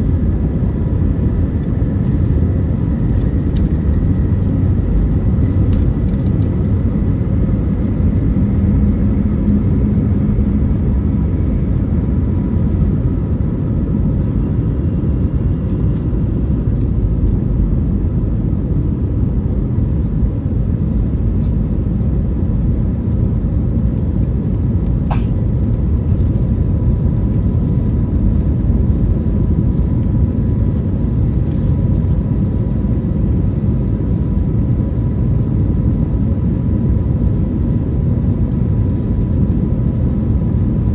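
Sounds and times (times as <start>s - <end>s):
airplane cabin engine rumble: 0.0s - 40.9s
faint engine hum: 0.0s - 40.9s.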